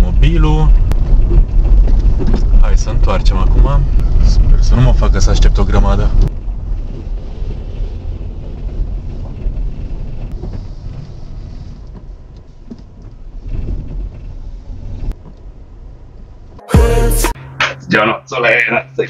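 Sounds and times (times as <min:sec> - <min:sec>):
car engine and tyres rumble: 0:00.0 - 0:16.6.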